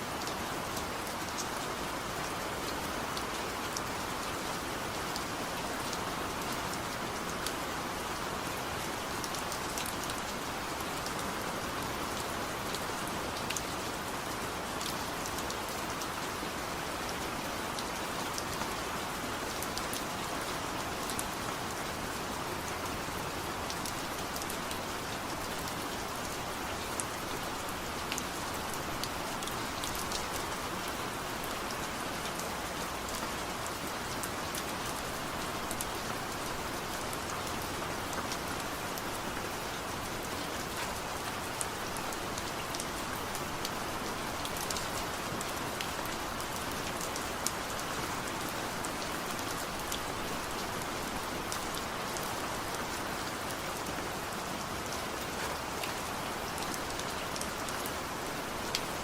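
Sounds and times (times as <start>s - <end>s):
light rain falling: 0.0s - 59.0s.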